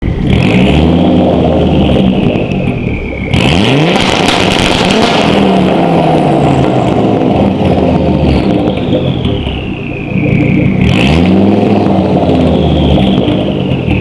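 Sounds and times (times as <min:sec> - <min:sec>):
car engine revving: 0:00.0 - 0:14.0
turbo whistle: 0:01.5 - 0:07.2, 0:08.3 - 0:14.0.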